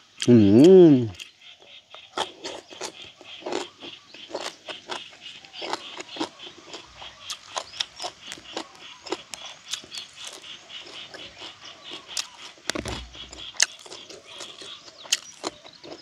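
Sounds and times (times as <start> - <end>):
man chewing with wet smacks: 1.1 - 16.0.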